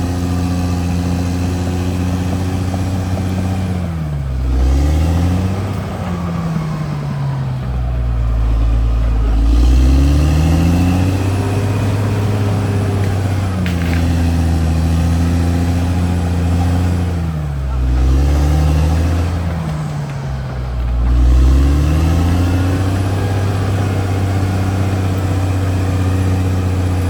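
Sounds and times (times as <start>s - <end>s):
bulldozer diesel engine revving: 0.0s - 27.0s.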